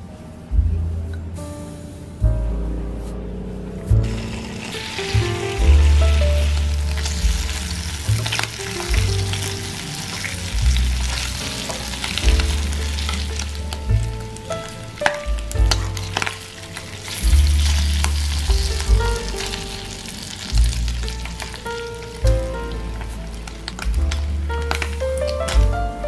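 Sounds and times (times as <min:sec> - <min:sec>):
background music with bass line: 0:00.0 - 0:26.0
bacon sizzling in a frying pan: 0:04.0 - 0:25.6.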